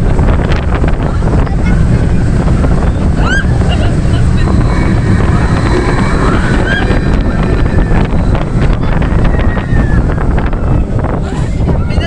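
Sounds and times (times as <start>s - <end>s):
faint voices: 0.0s - 12.0s
wind buffeting microphone: 0.0s - 12.0s.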